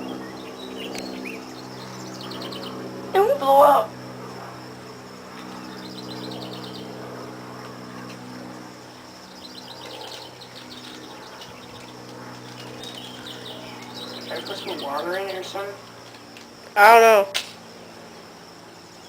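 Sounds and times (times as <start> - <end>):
small birds chirping: 0.0 - 17.0
steady low hum: 0.0 - 19.0.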